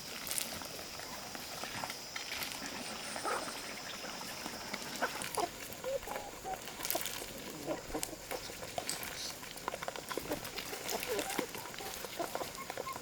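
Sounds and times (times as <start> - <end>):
chickens clucking: 2.4 - 13.0.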